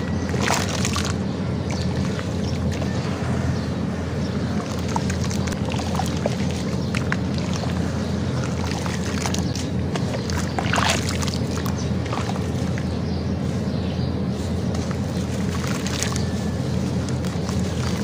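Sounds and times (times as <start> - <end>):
hands squishing wet cement mix: 0.0 - 3.1, 4.3 - 13.8, 14.5 - 18.0.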